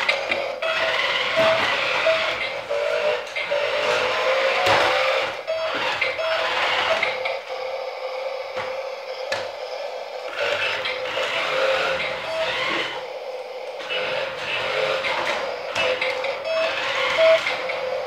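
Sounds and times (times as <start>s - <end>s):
toy car electric motor whirring: 0.0s - 18.0s.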